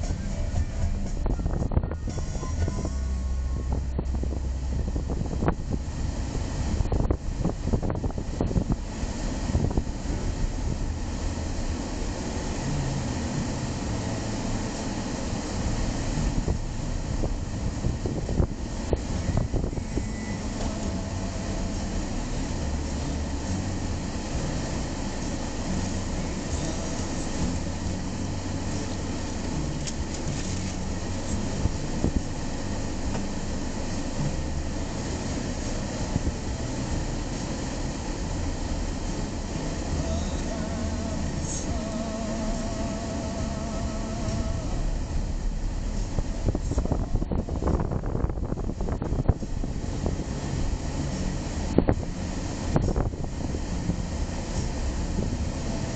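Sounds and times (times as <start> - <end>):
car engine and road noise: 0.0 - 55.9
car engine idling: 0.0 - 55.9.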